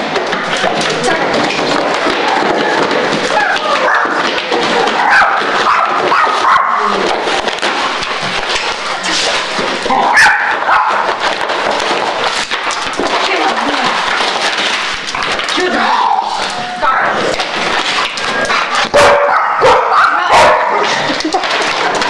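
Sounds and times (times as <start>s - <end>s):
cardboard crackling and ripping: 0.0s - 19.6s.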